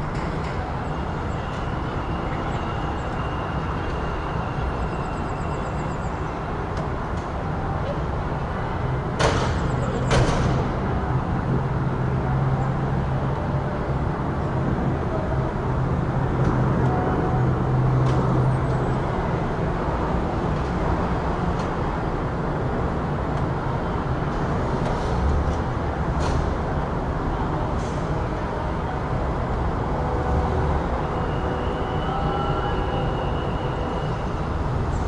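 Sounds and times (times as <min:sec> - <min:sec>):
passing vehicles rushing: 0:06.2 - 0:35.0.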